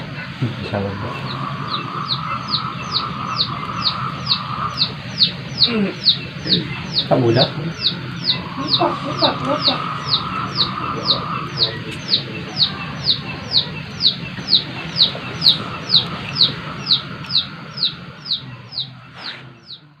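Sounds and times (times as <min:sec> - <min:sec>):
bird chirping: 0:00.0 - 0:20.0
steady low hum: 0:00.0 - 0:20.0.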